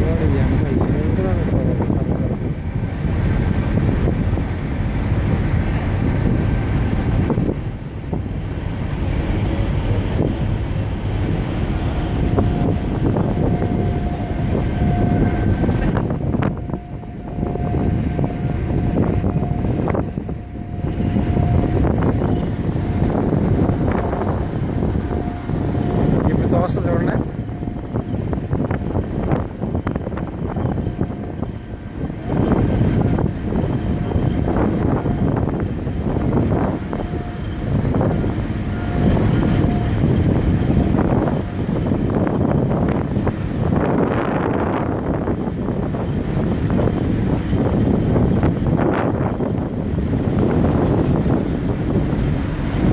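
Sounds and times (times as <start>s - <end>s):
ship engine low rumble: 0.0s - 52.9s
wind buffeting microphone: 0.0s - 52.9s.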